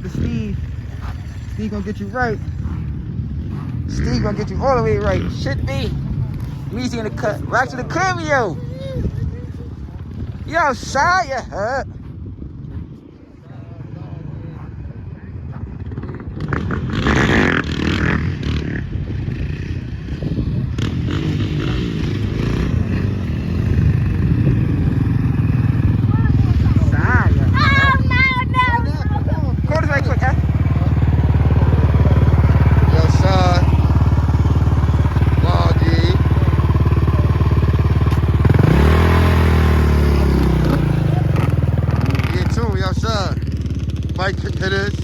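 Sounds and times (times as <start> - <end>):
motorbike engine revving: 0.0 - 11.2, 15.8 - 45.0.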